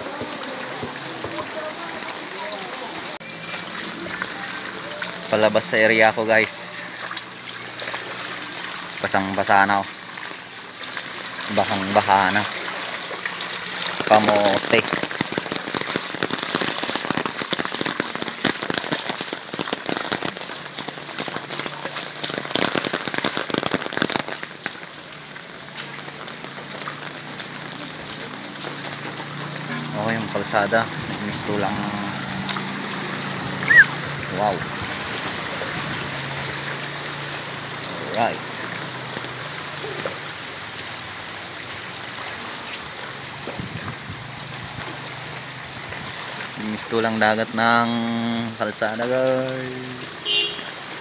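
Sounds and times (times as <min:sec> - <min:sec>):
rain pattering hard: 0:00.0 - 0:51.0
water flowing over road: 0:00.0 - 0:51.0.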